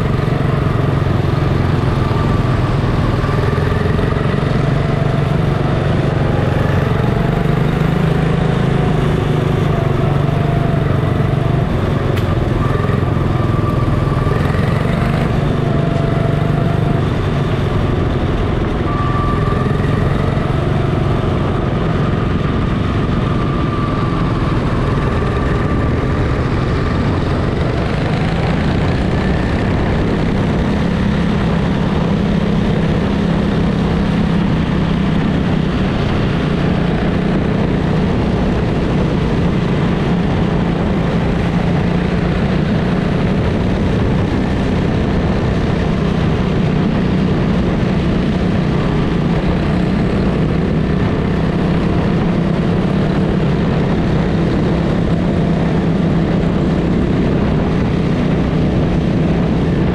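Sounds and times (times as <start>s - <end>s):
other small cars running nearby: 0.0s - 59.9s
small engine running: 0.0s - 59.9s
steady rush of noise: 0.0s - 59.9s.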